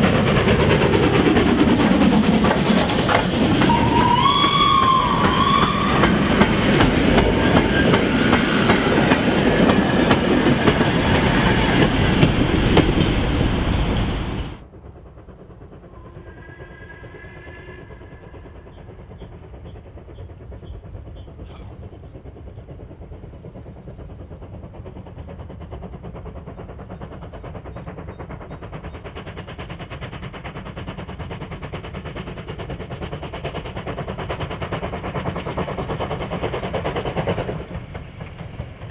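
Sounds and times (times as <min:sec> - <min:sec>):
distant steam locomotive rumble: 0:00.0 - 0:38.9.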